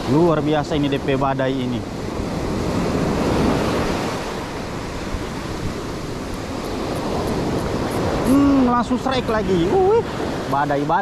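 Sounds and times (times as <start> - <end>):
surf breaking on a beach: 0.0 - 11.0
wind buffeting microphone: 0.0 - 11.0.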